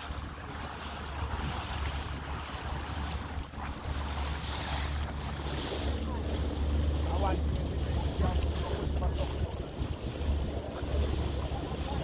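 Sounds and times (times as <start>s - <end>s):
boat engine running: 0.0s - 12.0s
water rushing: 0.0s - 12.0s
wind buffeting microphone: 0.0s - 12.0s.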